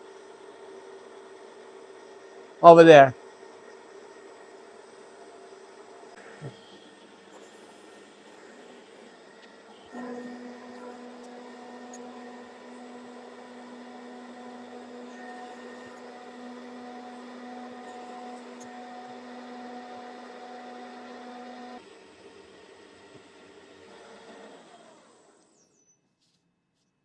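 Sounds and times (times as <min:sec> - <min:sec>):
milling machine humming: 0:03.9 - 0:25.6.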